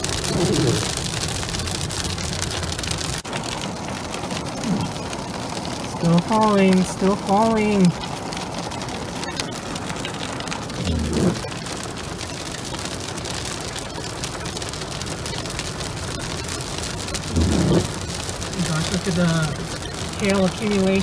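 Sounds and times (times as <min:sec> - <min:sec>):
hail and rain on car roof: 0:00.0 - 0:21.0.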